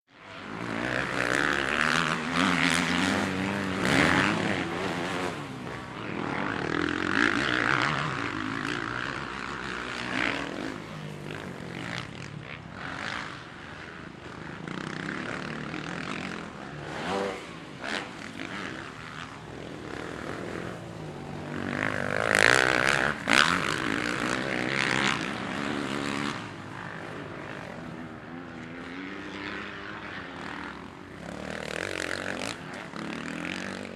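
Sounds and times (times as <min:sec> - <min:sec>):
motorcycle engines revving: 0:00.1 - 0:33.9.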